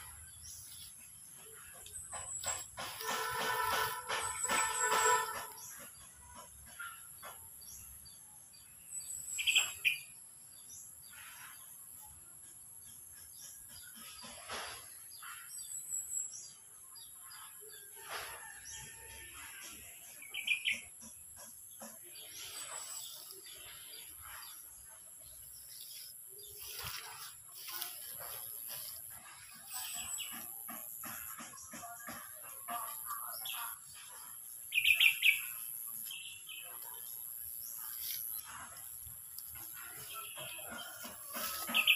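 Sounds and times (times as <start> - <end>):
small birds chirping: 0.0 - 17.8, 20.0 - 41.9.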